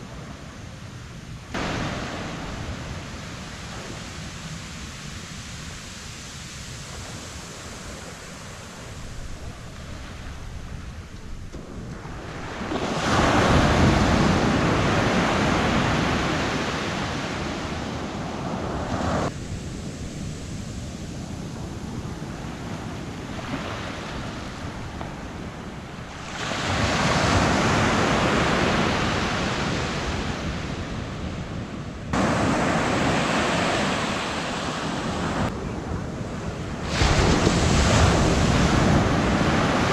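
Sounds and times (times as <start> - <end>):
surf waves washing up a beach: 0.0 - 39.9.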